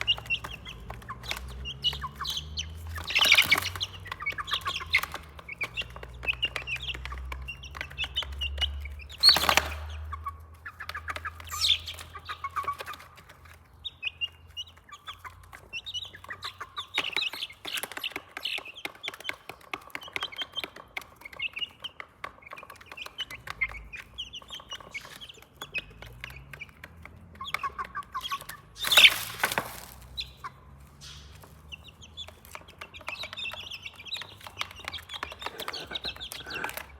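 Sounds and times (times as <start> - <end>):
chicken clucking: 0.0 - 36.9
chicks peeping: 0.0 - 36.9.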